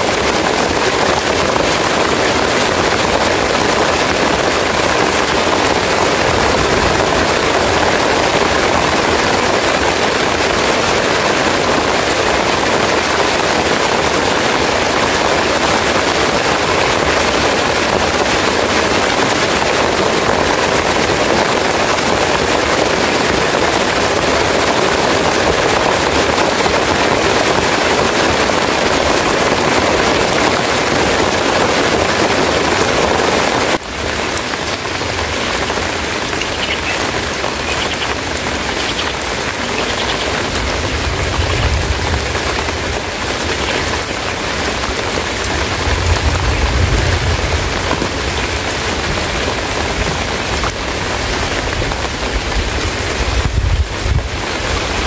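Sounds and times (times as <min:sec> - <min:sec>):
heavy rain on leaves: 0:00.0 - 0:55.0.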